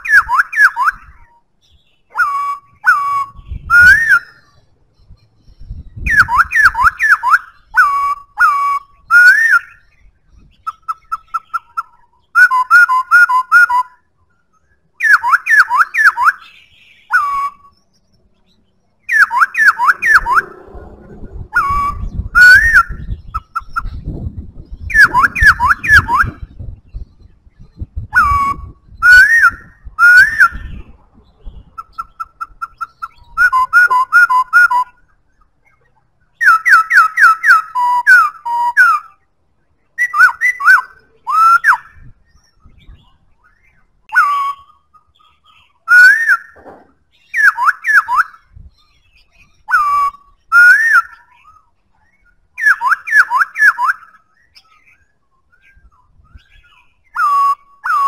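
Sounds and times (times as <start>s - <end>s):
bird singing whistled phrases: 0.0s - 20.6s, 21.5s - 39.3s, 40.0s - 58.0s.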